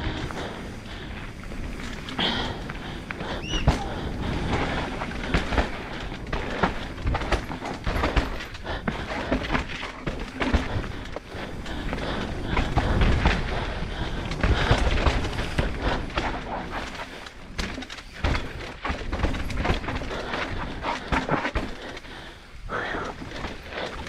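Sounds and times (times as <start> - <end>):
bike knocking and rattling: 0.0 - 24.0.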